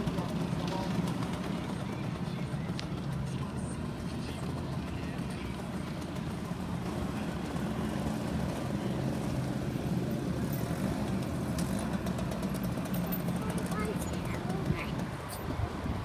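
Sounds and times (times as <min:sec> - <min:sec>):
many motorcycle engines droning: 0:00.0 - 0:16.0.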